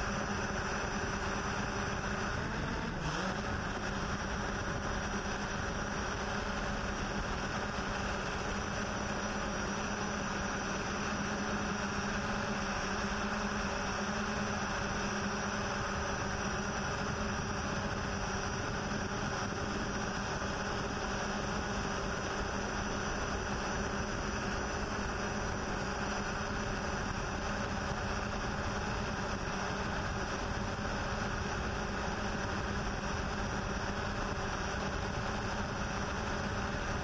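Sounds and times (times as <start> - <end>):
drone motors and propellers: 0.0 - 37.0.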